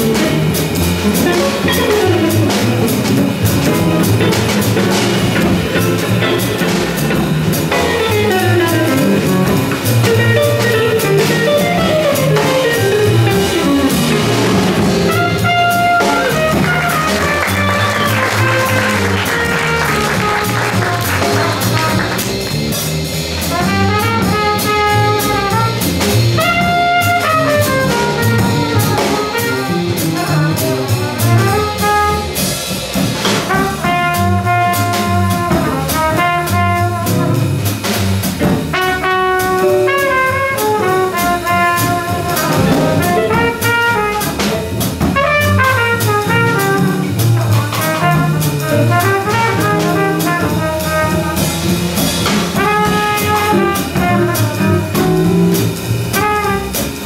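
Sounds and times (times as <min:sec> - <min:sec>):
bass: 0:00.0 - 0:57.0
drum kit: 0:00.0 - 0:57.0
jazz horn melody: 0:00.0 - 0:57.0.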